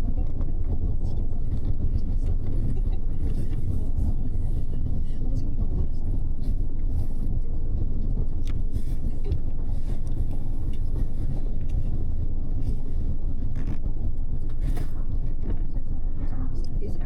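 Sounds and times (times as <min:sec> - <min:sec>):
bus engine and road rumble: 0:00.0 - 0:17.0
faint ticks and rattles: 0:00.0 - 0:17.0.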